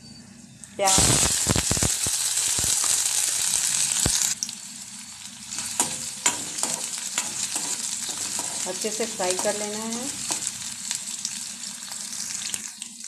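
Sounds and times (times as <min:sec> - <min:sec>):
onions sizzling in hot oil: 0:00.7 - 0:13.0.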